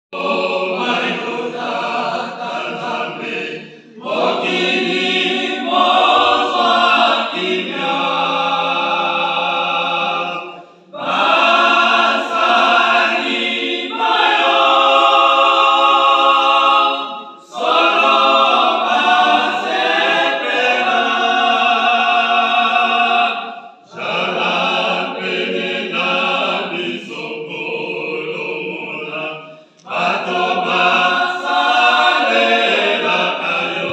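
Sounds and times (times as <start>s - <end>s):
choir singing a cappella: 0.1s - 33.9s.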